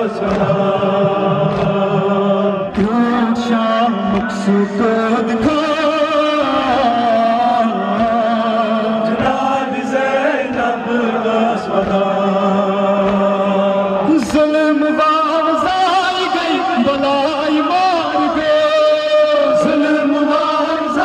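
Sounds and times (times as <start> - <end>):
man chanting through loudspeaker: 0.0 - 21.0.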